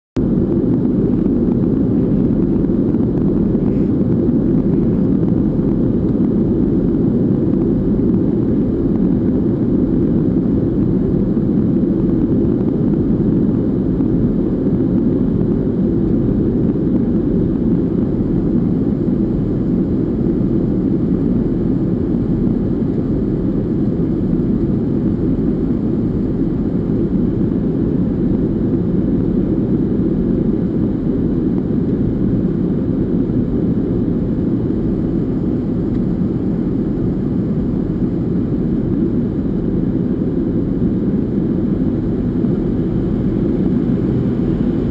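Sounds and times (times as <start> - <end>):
airliner cabin noise: 0.2 - 44.9.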